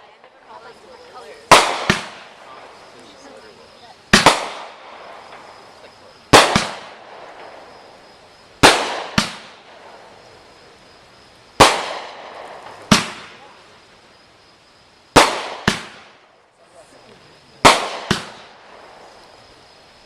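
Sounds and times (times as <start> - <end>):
firework bangs: 0.0 - 13.7, 15.1 - 16.4, 17.5 - 19.6.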